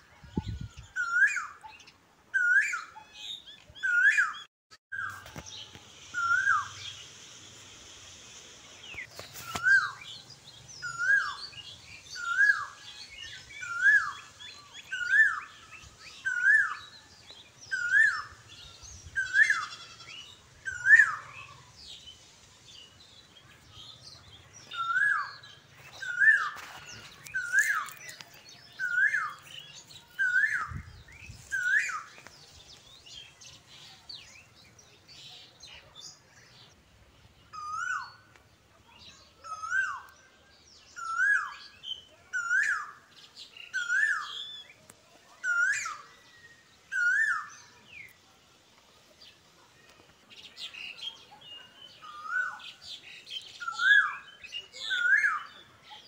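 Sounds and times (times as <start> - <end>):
bird chirping: 0.3 - 48.3.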